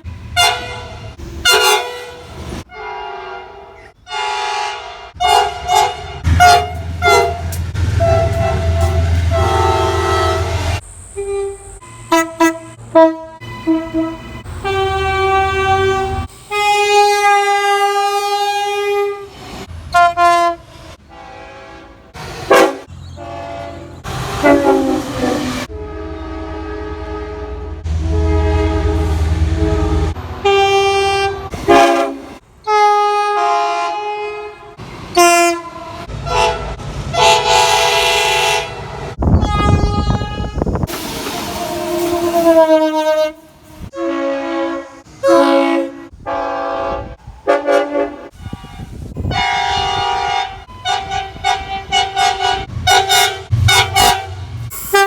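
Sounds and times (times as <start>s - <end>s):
train air horn blasts: 0.0s - 55.0s
train rumble: 0.0s - 55.0s.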